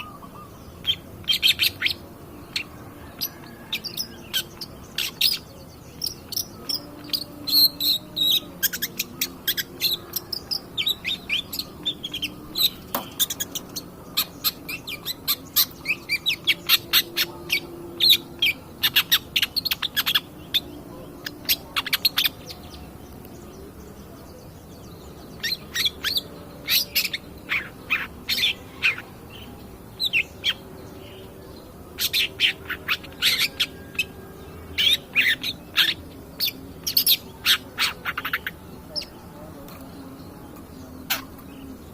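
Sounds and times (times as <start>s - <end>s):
bird chattering song: 0.0s - 41.9s.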